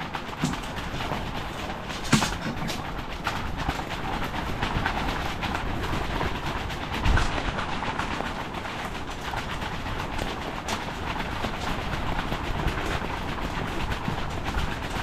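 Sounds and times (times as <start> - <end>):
fast fluttering clatter: 0.0 - 15.0
wind buffeting microphone: 0.0 - 15.0.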